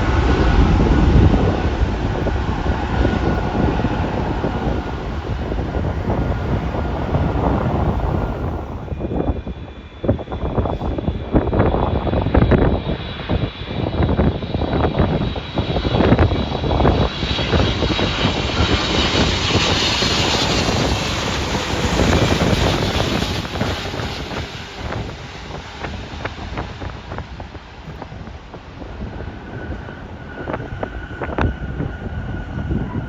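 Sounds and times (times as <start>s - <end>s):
jet engines passing: 0.0s - 33.0s
wind buffeting microphone: 0.0s - 33.0s.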